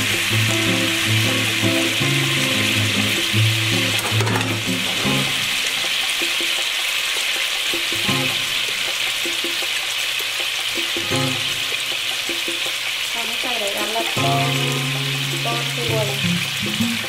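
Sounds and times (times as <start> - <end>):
beef sizzling in a skillet: 0.0 - 17.0.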